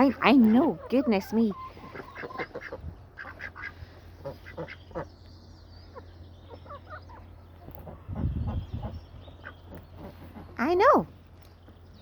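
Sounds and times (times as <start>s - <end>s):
ducks quacking: 0.0s - 5.2s, 5.9s - 10.8s.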